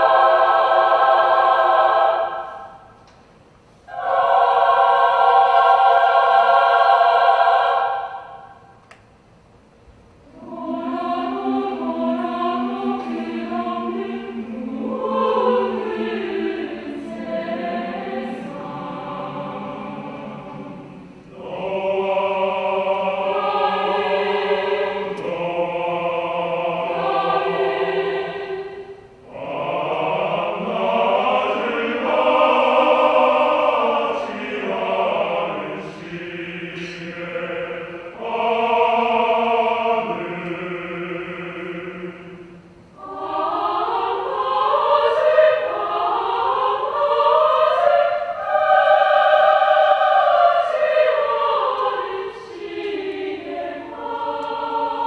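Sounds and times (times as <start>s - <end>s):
large mixed choir singing: 0.0s - 3.0s, 3.9s - 8.8s, 10.2s - 55.0s.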